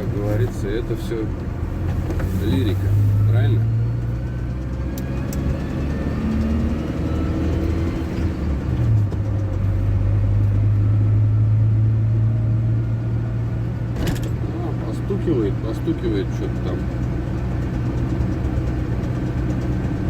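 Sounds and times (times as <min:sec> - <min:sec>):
van engine drone from cab: 0:00.0 - 0:20.0.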